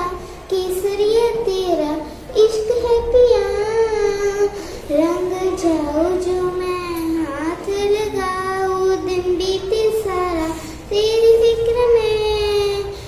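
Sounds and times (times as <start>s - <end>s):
girl singing: 0.0s - 13.0s.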